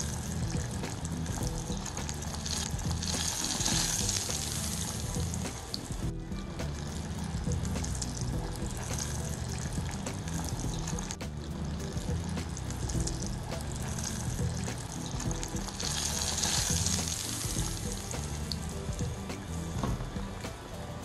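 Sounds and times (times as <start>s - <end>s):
hot oil sizzling: 0.0s - 21.0s.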